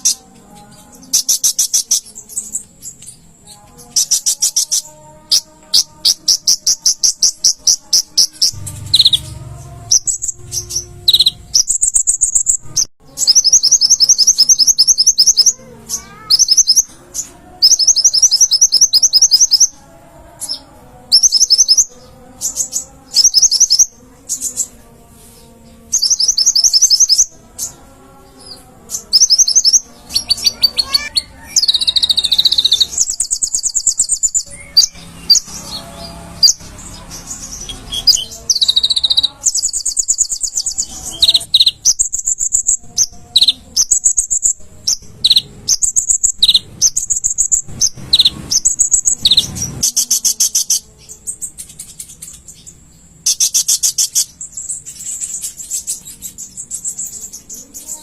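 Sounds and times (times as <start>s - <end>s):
sunbird trills and chirps: 0.0s - 19.8s, 25.9s - 27.8s, 28.9s - 58.0s.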